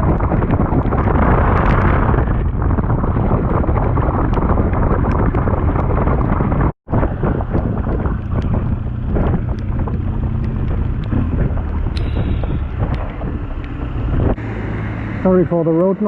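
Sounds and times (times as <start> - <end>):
wind buffeting microphone: 0.0 - 15.6
motorcycle engine hum: 0.0 - 16.0
road noise: 0.0 - 16.0.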